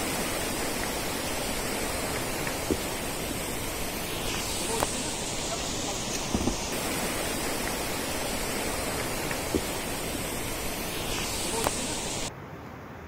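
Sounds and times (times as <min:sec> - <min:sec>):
mountain stream rushing: 0:00.0 - 0:12.3.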